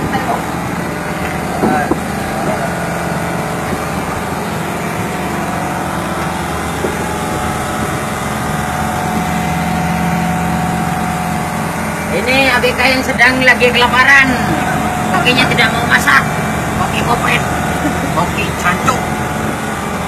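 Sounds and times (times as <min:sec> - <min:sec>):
boat engine humming: 0:00.0 - 0:20.0
constant rushing noise: 0:00.0 - 0:20.0.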